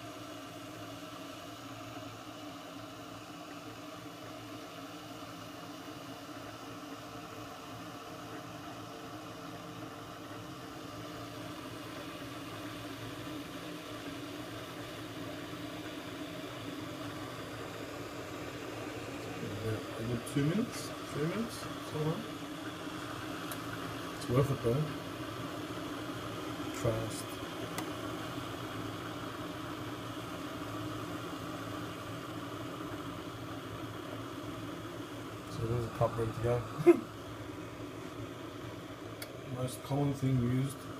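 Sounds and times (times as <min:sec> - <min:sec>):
coffee machine humming and hissing: 0:00.0 - 0:40.9.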